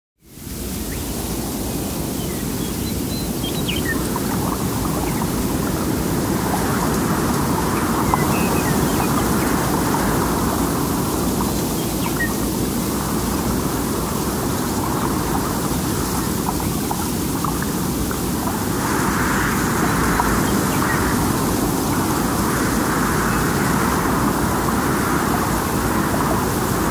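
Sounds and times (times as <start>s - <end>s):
wind: 0.2s - 26.9s
distant traffic: 3.4s - 26.9s.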